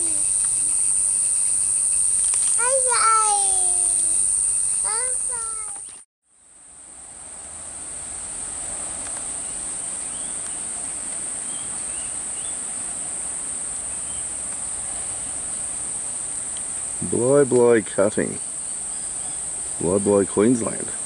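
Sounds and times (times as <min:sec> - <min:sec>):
high-pitched insect chorus: 0:00.0 - 0:06.0, 0:07.8 - 0:21.0.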